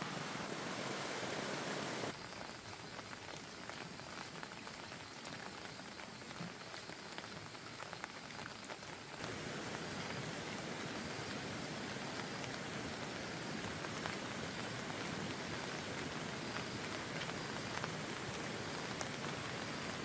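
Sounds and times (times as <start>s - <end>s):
raindrops ticking on surfaces: 0.0s - 20.0s
steady rain falling: 0.0s - 20.0s.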